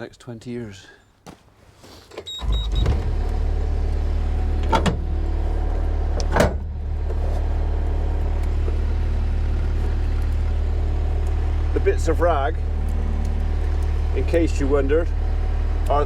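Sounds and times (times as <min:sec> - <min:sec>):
engine starting and idling: 0:02.3 - 0:16.0.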